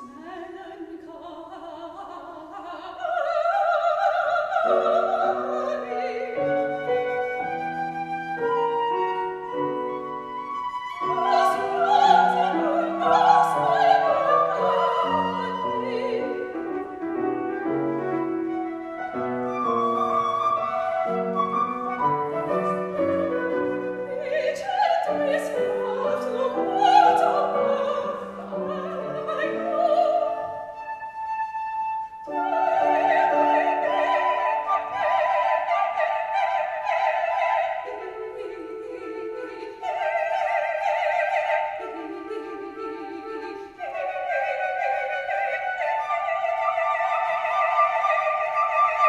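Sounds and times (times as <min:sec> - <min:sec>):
soprano singing: 0:00.0 - 0:49.0
flute melody: 0:02.6 - 0:49.0.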